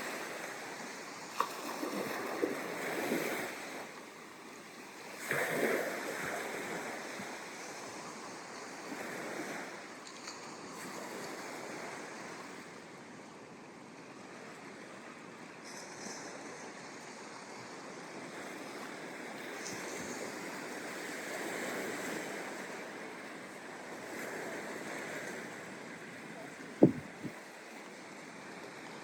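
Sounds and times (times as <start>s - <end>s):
ocean surf on a beach: 0.0s - 29.0s.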